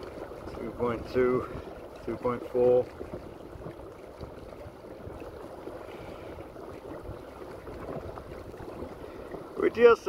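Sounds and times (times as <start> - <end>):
water lapping along boat hull: 0.0 - 10.0.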